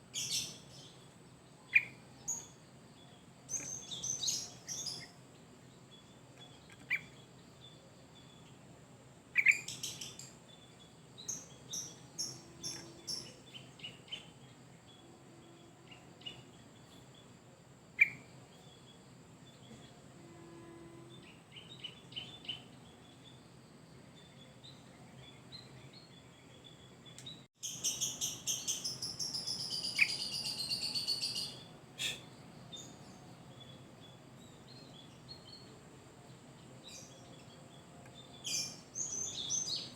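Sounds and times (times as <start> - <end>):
bulbul singing and chirping: 0.0 - 8.6, 9.3 - 17.3, 18.0 - 20.1, 21.1 - 23.4, 24.1 - 39.9.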